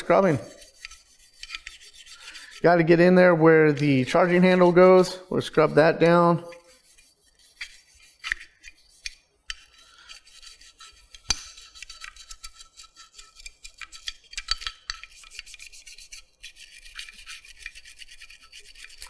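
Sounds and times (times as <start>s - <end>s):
brush scrubbing metal: 0.0s - 19.0s.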